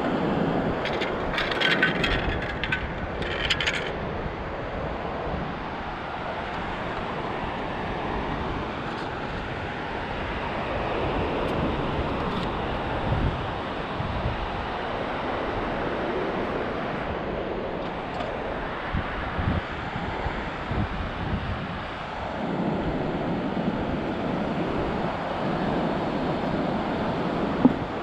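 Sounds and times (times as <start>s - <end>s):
ocean surf: 0.0s - 28.0s
wind on microphone: 0.0s - 28.0s.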